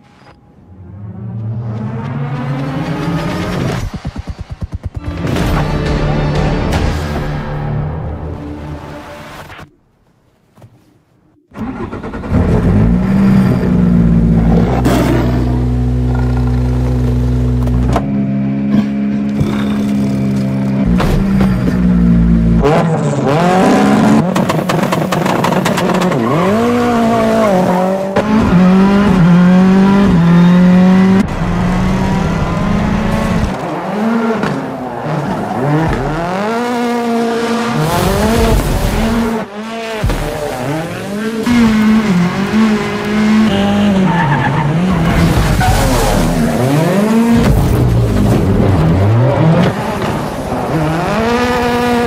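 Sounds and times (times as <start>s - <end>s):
tyres skidding: 0.0s - 52.0s
rally car engine revving: 0.7s - 9.4s, 11.5s - 52.0s.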